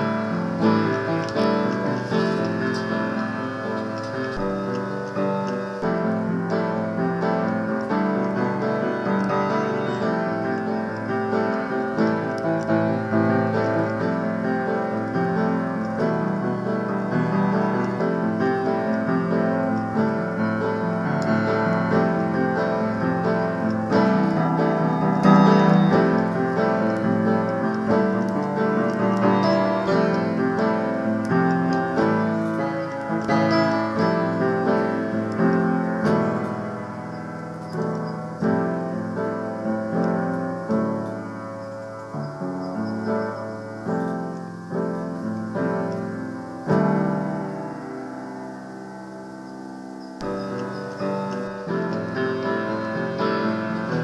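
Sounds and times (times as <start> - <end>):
piano music: 0.0 - 54.0.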